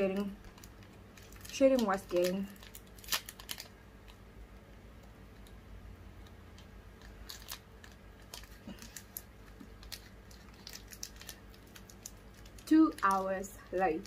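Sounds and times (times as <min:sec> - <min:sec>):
sweet wrapper crinkling: 0:00.0 - 0:04.3, 0:06.2 - 0:14.0.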